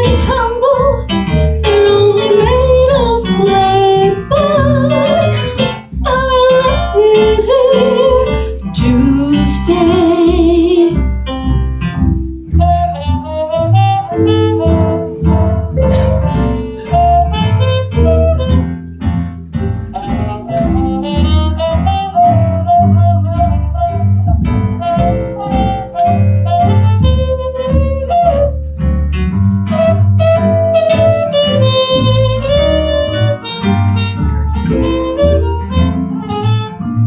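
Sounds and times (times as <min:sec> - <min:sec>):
double bass: 0:00.0 - 0:37.0
reed instrument melody: 0:00.0 - 0:37.0.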